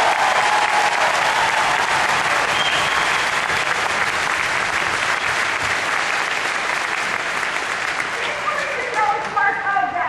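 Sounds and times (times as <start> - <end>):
large crowd applauding: 0.0 - 9.2.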